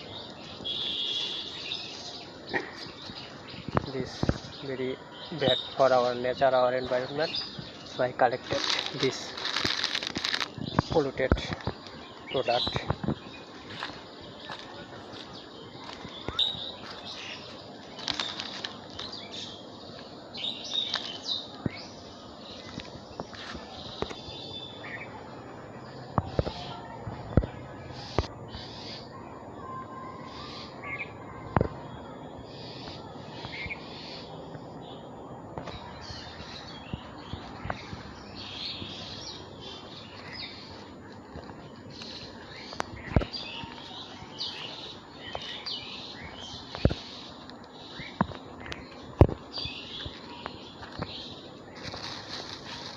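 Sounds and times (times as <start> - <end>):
birds chirping: 0.0 - 52.9
steady background hiss: 0.0 - 52.9.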